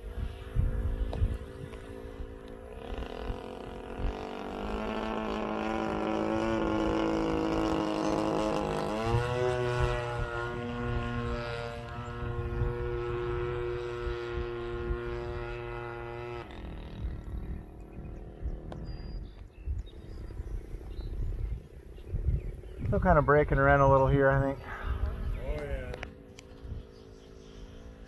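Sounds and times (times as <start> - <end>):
model plane engine and propeller: 0.0 - 28.0.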